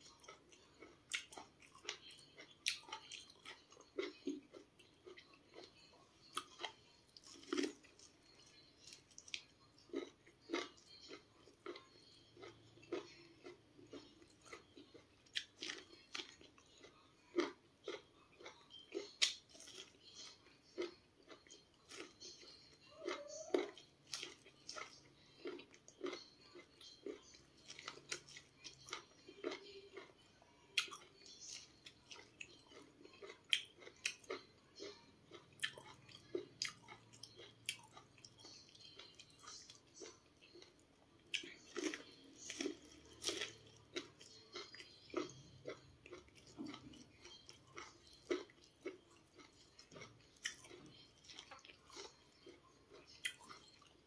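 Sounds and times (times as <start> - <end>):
chewing corn: 0.0 - 54.0.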